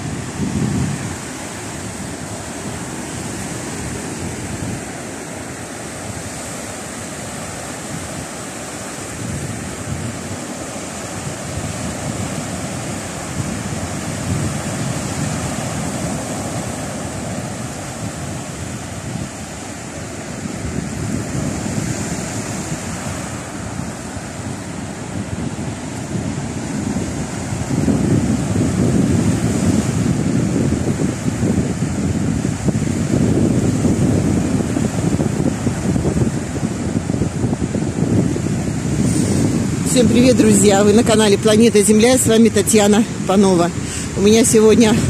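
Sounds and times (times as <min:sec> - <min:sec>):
surf breaking on sandy beach: 0:00.0 - 0:45.0
wind buffeting microphone: 0:00.0 - 0:45.0.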